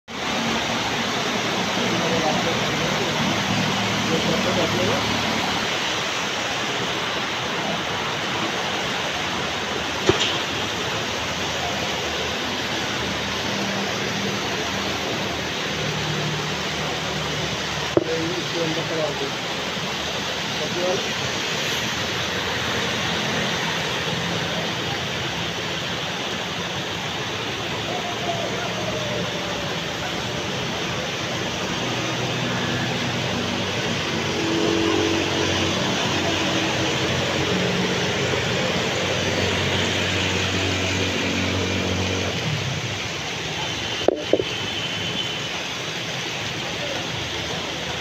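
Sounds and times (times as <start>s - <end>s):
heavy rain pouring: 0.1s - 48.0s
traffic on wet road: 0.1s - 48.0s.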